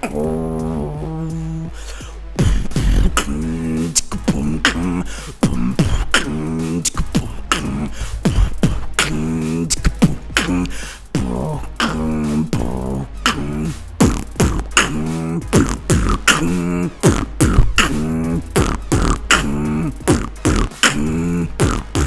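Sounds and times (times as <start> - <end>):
beatboxing: 0.0 - 22.0
hummed bass notes: 0.0 - 22.0.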